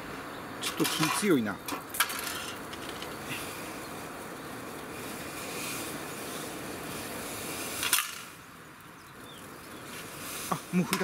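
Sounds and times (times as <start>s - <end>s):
camping stove hissing: 1.8s - 11.0s.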